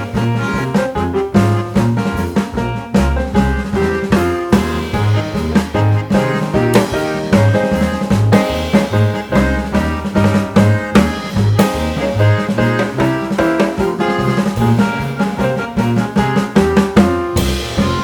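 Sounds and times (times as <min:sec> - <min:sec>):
background music: 0:00.0 - 0:18.0
drum kit beat: 0:00.0 - 0:18.0.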